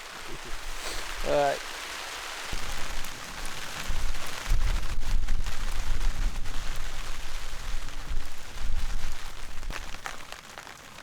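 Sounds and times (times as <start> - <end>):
rain falling on forest: 0.0 - 11.0.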